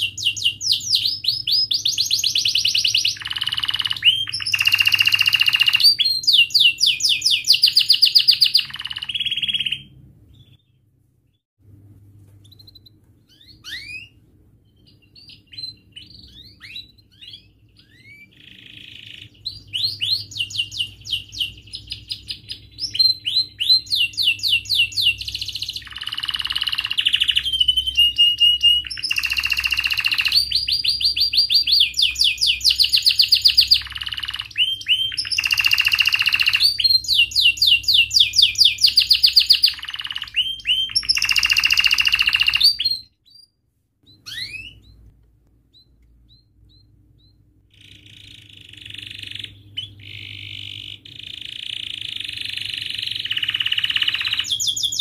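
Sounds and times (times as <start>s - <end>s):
canary singing trills: 0.0s - 11.4s, 12.4s - 55.0s.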